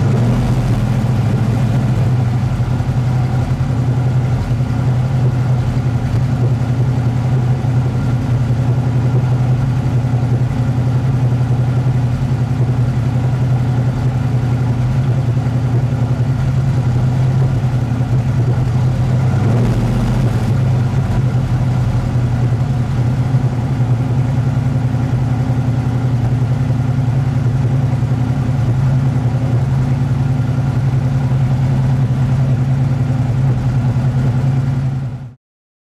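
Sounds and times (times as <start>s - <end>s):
car engine idling: 0.0s - 35.3s.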